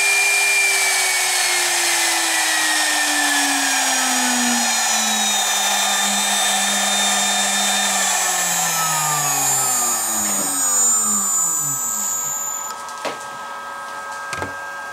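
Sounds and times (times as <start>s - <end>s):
spindle whine spinning down: 0.0s - 12.9s.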